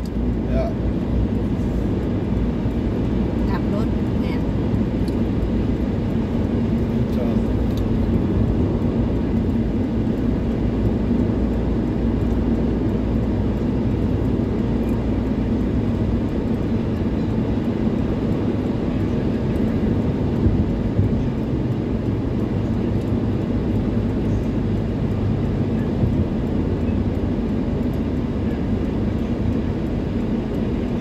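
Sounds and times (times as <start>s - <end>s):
car driving at highway speed: 0.0s - 31.0s.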